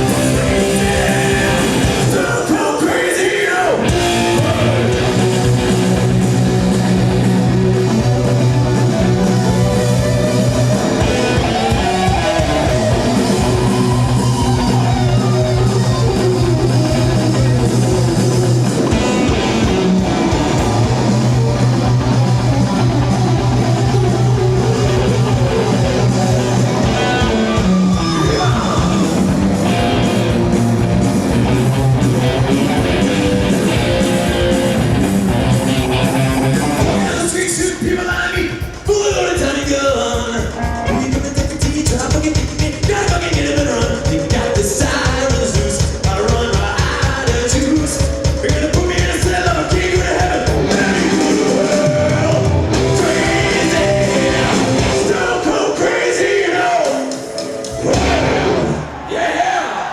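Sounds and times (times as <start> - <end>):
held bass notes: 0.0 - 2.4, 3.8 - 38.0, 40.0 - 45.3, 48.6 - 55.4, 57.6 - 58.9
drum kit: 0.0 - 3.0, 3.7 - 59.1
electric guitar riffing: 0.0 - 38.8, 39.4 - 59.1.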